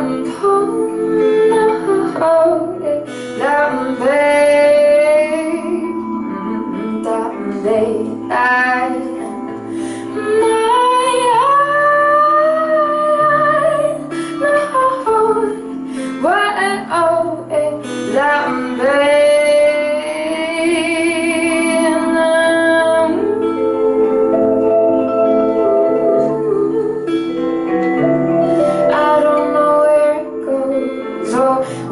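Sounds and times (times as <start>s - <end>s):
keyboard: 0.0s - 31.9s
strummed acoustic guitar: 0.0s - 31.9s
woman singing: 0.0s - 31.9s.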